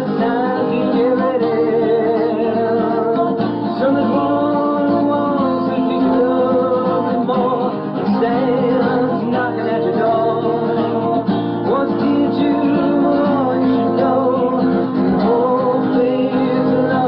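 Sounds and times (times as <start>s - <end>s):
guitar: 0.0s - 17.0s
person singing: 0.0s - 17.0s.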